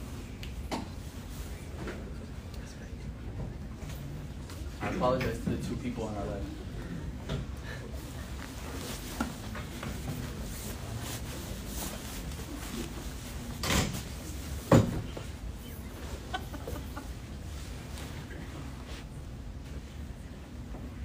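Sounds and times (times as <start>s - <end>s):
people shuffling and moving: 0.0s - 21.0s.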